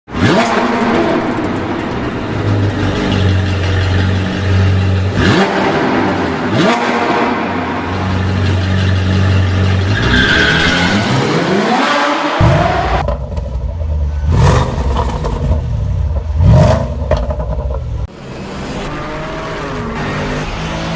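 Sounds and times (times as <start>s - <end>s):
car engine idling and revving: 0.1s - 20.9s.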